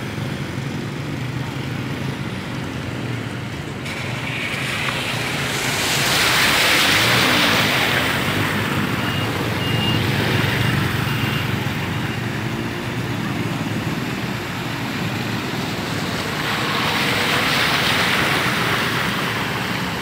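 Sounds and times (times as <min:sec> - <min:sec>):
tyres splashing through water: 0:01.2 - 0:20.0.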